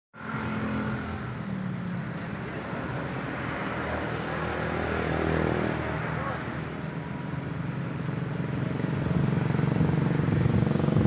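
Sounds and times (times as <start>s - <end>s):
engine hum: 0.2s - 11.0s.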